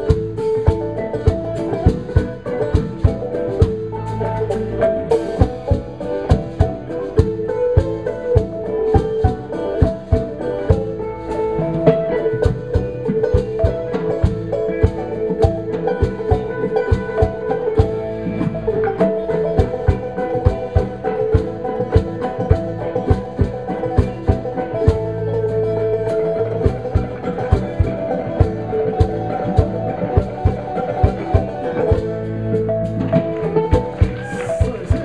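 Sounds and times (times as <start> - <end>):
acoustic guitar: 0.0 - 35.0
banjo: 0.0 - 35.0
lute: 0.0 - 35.0
percussion steady beat: 0.0 - 35.0.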